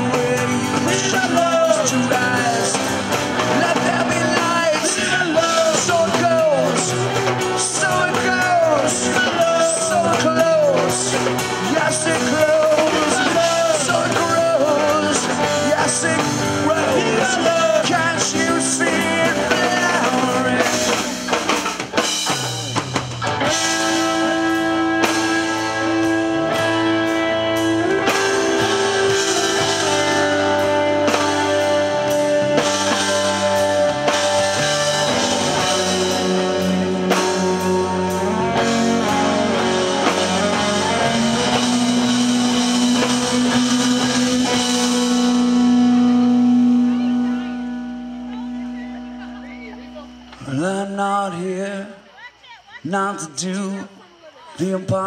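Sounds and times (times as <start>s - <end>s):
electric lead guitar bending notes: 0.0s - 52.0s
live rock band playing: 0.0s - 55.0s.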